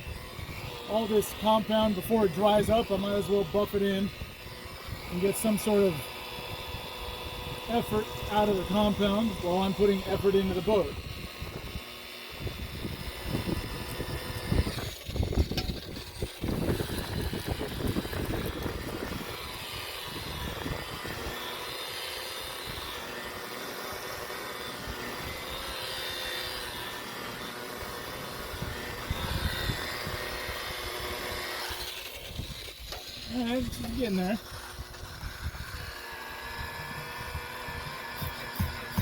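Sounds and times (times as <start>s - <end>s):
rotary buffer motor: 0.0s - 39.0s.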